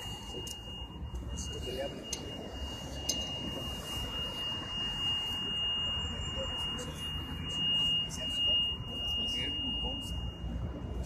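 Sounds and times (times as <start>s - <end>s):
high-pitched electronic tone: 0.0s - 11.0s.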